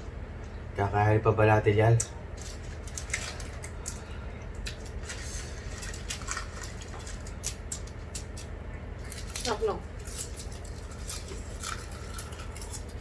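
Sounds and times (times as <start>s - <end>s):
wet chewing: 2.0s - 13.0s.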